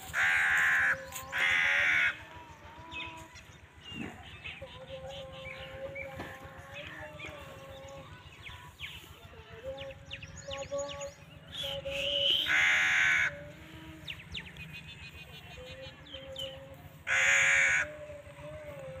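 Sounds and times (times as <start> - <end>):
loud harsh bird calls: 0.0 - 9.1, 10.4 - 18.4
small birds chirping: 0.0 - 17.2.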